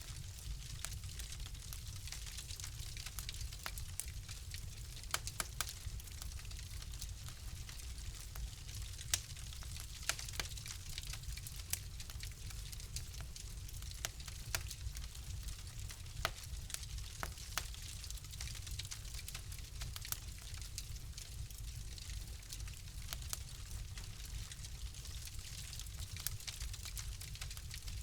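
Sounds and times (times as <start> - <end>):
low rumble and hiss of flames: 0.0 - 28.0
wood fire crackling: 0.0 - 28.0.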